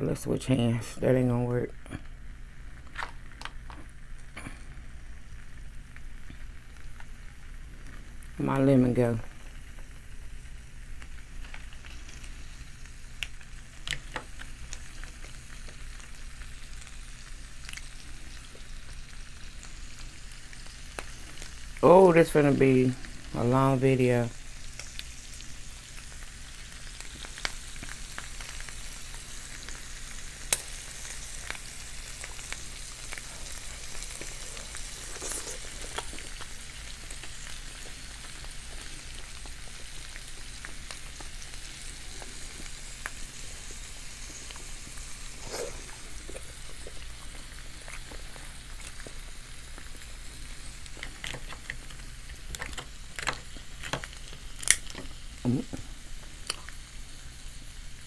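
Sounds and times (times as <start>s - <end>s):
food sizzling on hot plate: 0.8s - 58.0s.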